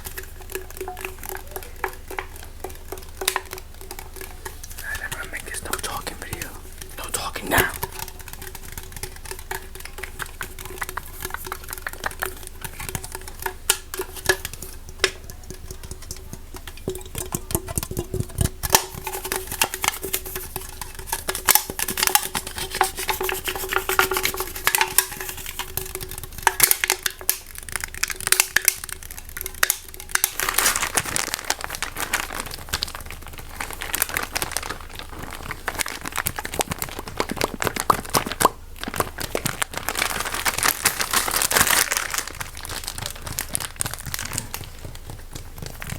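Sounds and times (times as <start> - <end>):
faint steady hum: 0.0 - 45.9
tapping clicking and scratching objects: 0.0 - 45.9.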